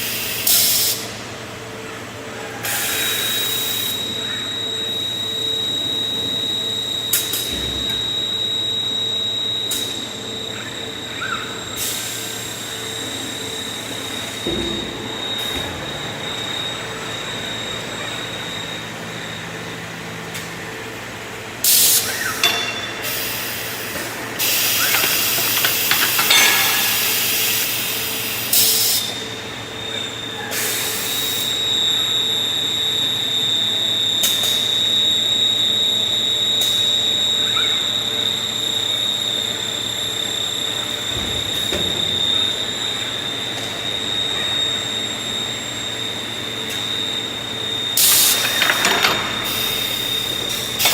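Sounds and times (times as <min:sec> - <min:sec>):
machinery whining and humming: 0:00.0 - 0:50.9.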